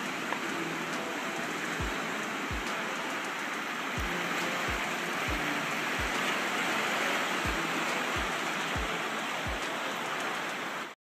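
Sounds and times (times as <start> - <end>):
churning water rushing: 0.0 - 11.0.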